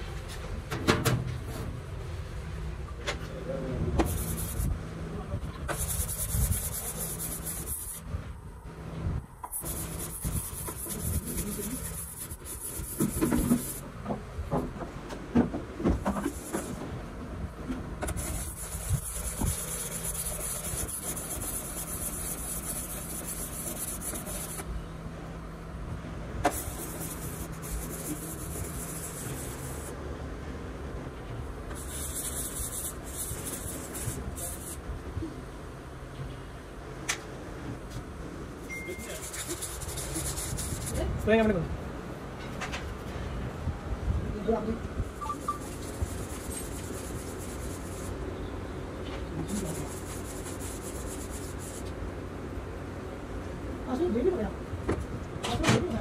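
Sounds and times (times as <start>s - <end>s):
steady low hum: 0.0s - 55.3s.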